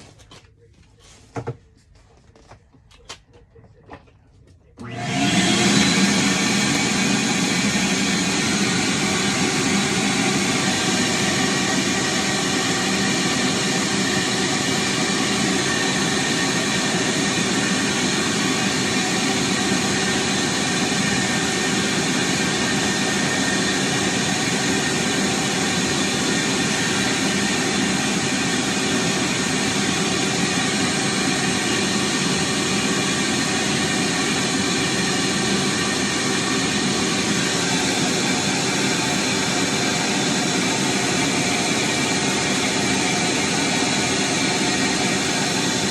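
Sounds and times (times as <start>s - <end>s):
vacuum cleaner motor running: 4.8s - 45.9s.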